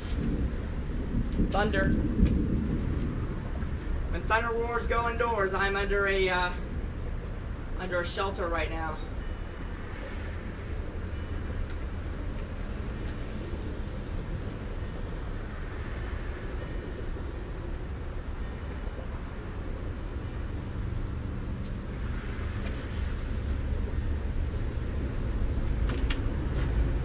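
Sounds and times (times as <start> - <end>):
gusting wind: 0.0 - 27.0
rain: 0.0 - 27.0.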